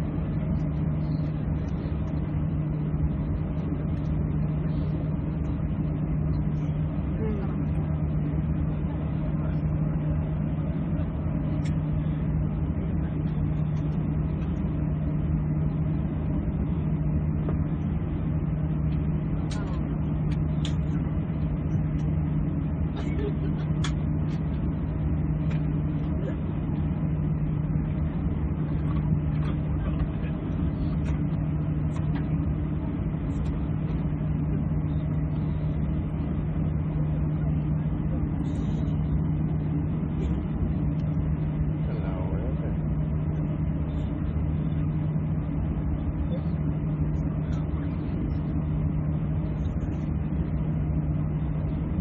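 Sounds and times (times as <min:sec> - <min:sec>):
airliner cabin drone: 0:00.0 - 0:52.0.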